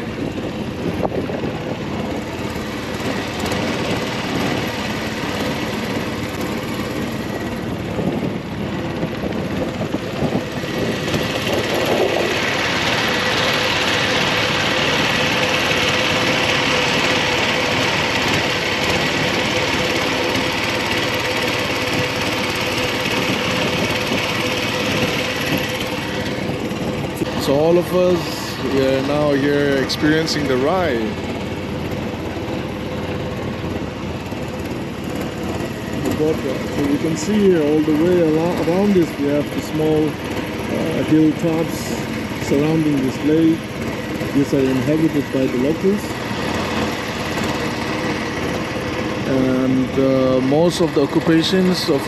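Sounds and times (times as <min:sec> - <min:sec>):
motorboat engine running: 0:00.0 - 0:52.0.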